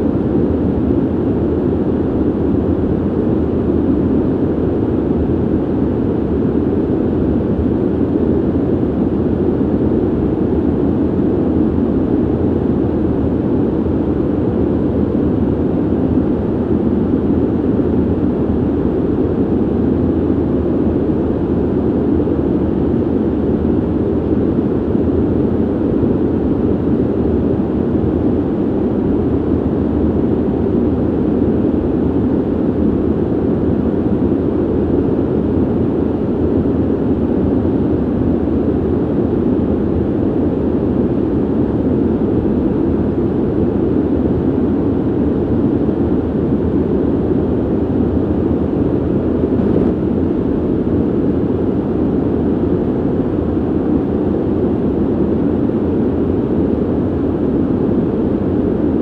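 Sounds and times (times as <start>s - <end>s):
ventilation air rushing: 0.0s - 59.0s.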